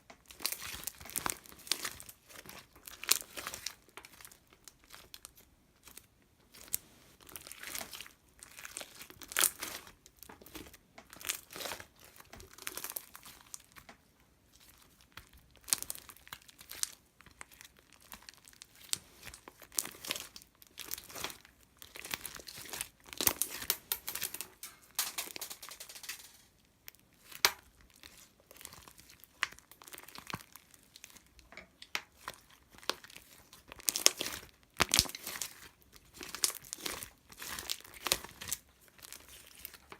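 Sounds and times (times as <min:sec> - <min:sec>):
crinkling and rustling: 0:00.0 - 0:39.9.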